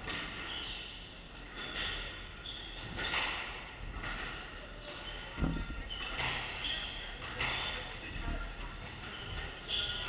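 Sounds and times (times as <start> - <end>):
shoes squeaking on wooden floor: 0.1 - 7.9, 8.6 - 10.0.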